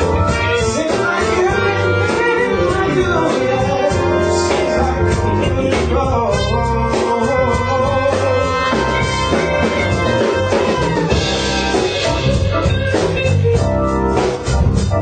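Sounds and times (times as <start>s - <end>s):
drum kit: 0.0s - 15.0s
instrumental band playing: 0.0s - 15.0s.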